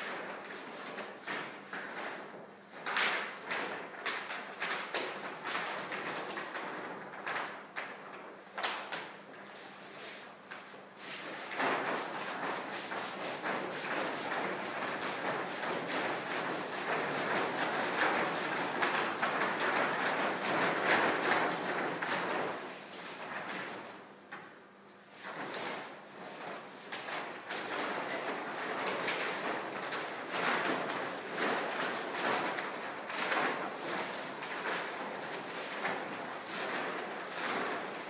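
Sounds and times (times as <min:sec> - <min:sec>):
paper rustling and crackling: 0:00.0 - 0:24.5, 0:25.2 - 0:38.0.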